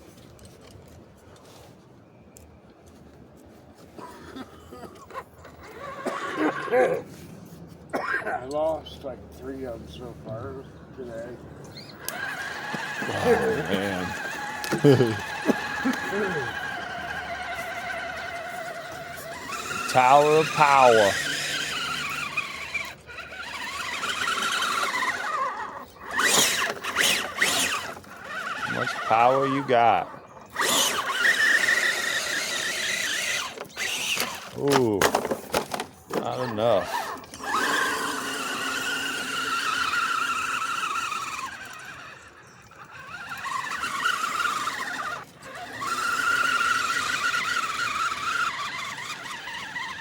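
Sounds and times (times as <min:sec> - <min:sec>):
electric motor and gearbox whining: 0:08.6 - 0:50.0.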